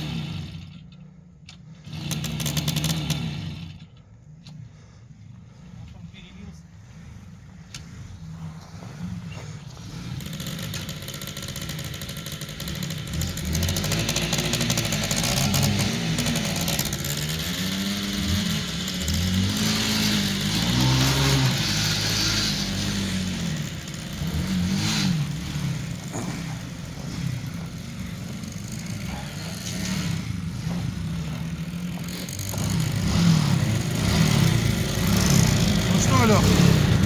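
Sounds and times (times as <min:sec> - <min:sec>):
engine revving: 0:00.0 - 0:00.8, 0:01.8 - 0:03.9, 0:08.7 - 0:37.0.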